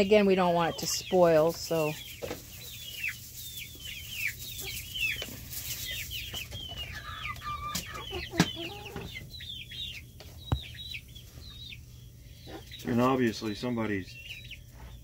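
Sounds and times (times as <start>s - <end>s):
chickens chirping: 0.0s - 15.0s.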